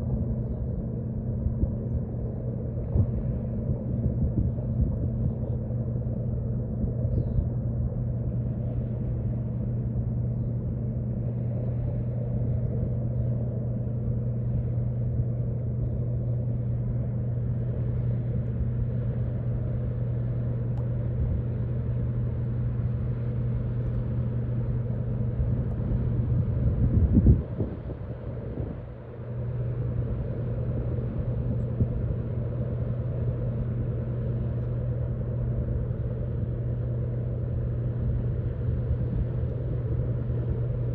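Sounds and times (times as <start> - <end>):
low rumble: 0.0 - 40.9
ship engines droning: 0.0 - 40.9.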